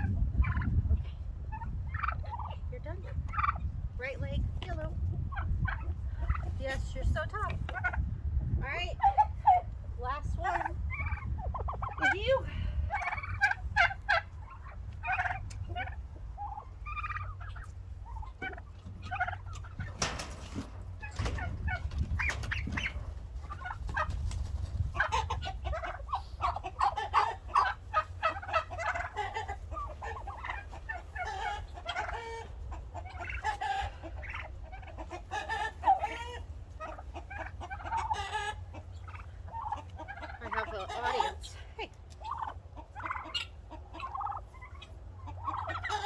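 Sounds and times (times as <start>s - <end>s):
turkeys clucking and yelping: 0.0s - 46.0s.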